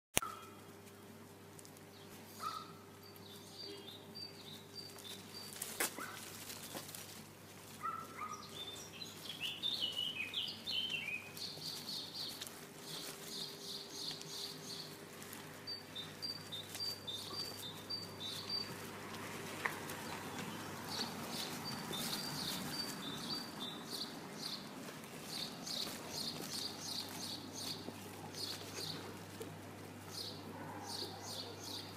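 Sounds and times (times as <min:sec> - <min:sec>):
small birds chirping: 0:01.6 - 0:31.9.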